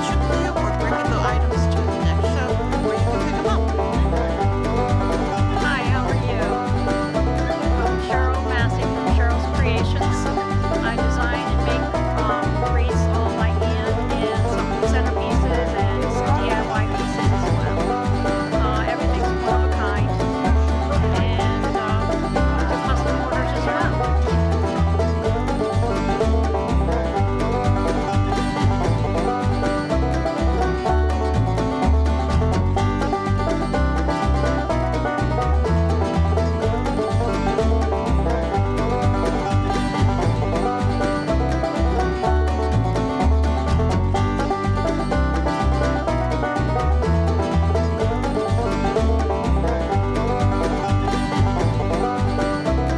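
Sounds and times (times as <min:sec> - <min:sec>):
upbeat bluegrass music: 0:00.0 - 0:52.9.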